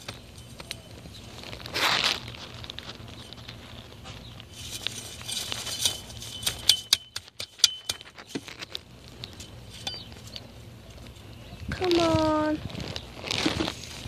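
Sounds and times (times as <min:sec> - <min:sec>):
thin high squeaks: 0:00.0 - 0:11.4
dry grass and leaves rustling: 0:00.0 - 0:14.0.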